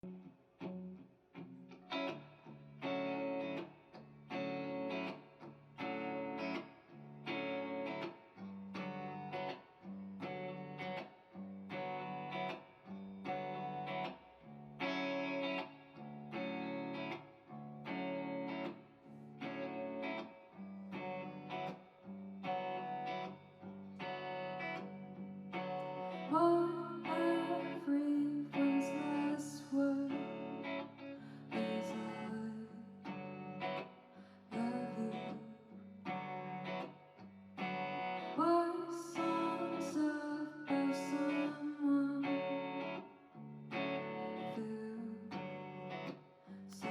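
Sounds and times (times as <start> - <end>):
guitar repeated chords: 0.0 - 46.9.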